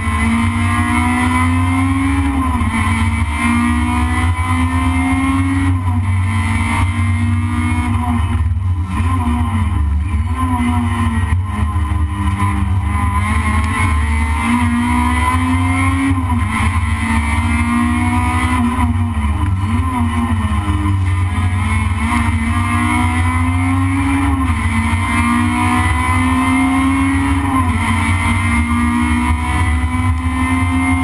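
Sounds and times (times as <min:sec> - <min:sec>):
race car engine revving: 0:00.0 - 0:31.0.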